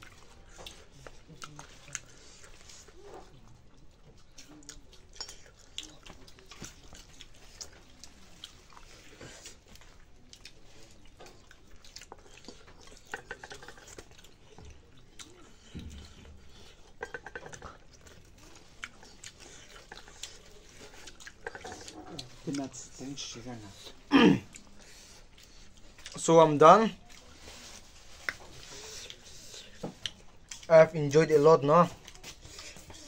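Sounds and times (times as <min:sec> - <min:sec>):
person chewing: 0:00.0 - 0:26.2, 0:27.0 - 0:30.7, 0:31.9 - 0:33.0.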